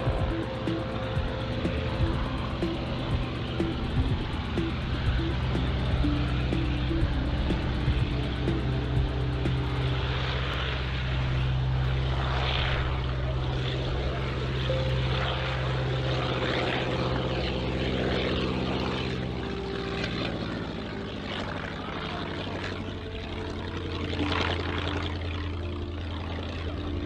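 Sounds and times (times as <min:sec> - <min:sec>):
propeller plane engine passing: 0:00.0 - 0:27.0.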